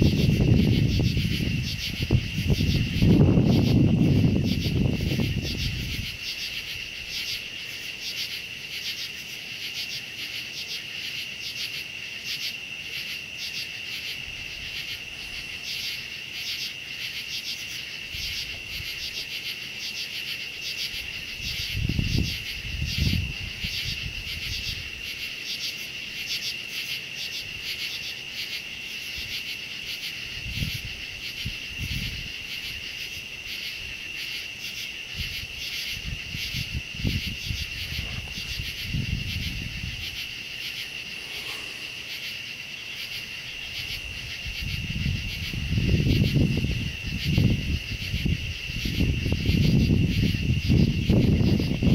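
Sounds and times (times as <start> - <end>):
night insects trilling: 0.0 - 51.9.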